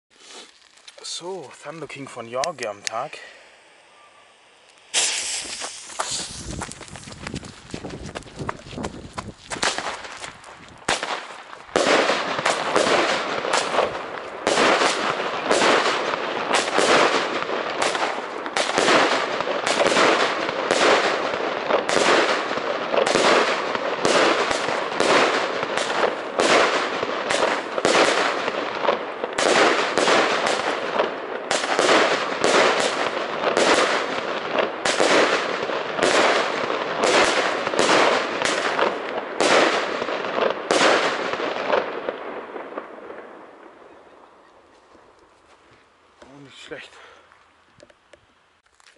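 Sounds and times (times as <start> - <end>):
firework bangs: 4.8 - 44.2.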